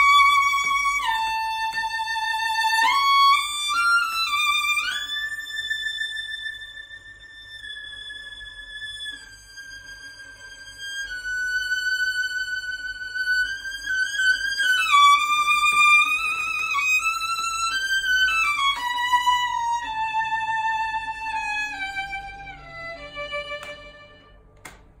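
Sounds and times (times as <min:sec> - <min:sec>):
violin playing slow melody: 0:00.0 - 0:24.6.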